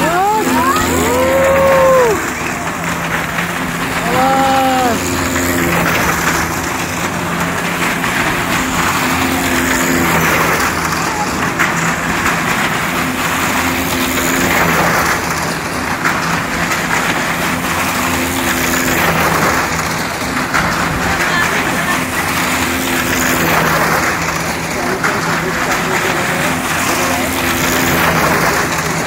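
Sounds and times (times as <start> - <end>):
car engine running hard: 0.0 - 29.0
loud steady rushing noise: 0.0 - 29.0.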